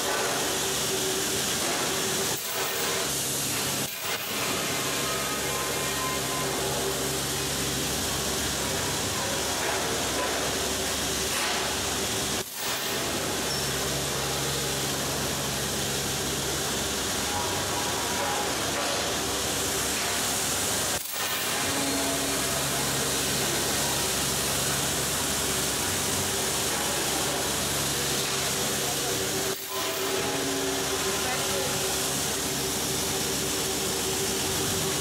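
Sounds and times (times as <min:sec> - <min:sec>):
production line mechanical din: 0:00.0 - 0:35.0.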